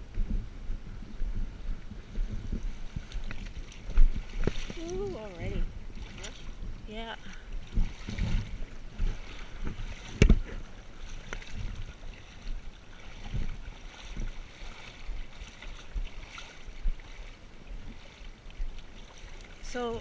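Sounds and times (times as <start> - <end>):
low rumbles: 0.0 - 20.0
seawater sloshing around legs: 1.7 - 20.0.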